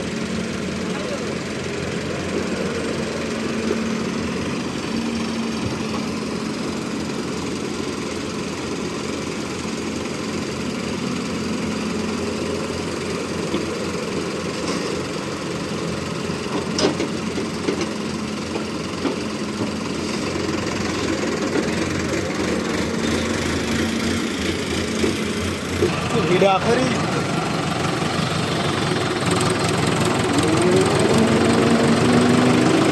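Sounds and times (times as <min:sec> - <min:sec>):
excavator engine running: 0:00.0 - 0:32.9.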